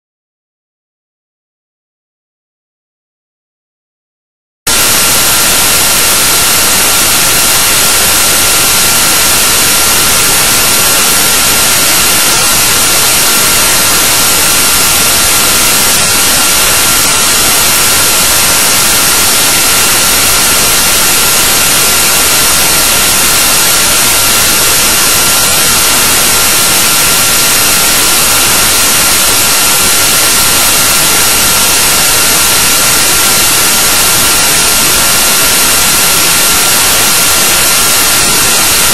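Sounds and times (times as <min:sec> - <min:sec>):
loud hiss with high whine: 0:04.7 - 0:38.9.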